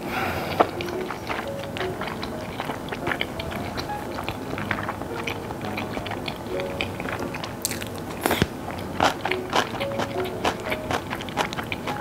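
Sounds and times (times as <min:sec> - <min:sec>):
chewing noodles: 0:00.0 - 0:12.0
light background music: 0:00.0 - 0:12.0
wet mouth clicks: 0:00.5 - 0:12.0.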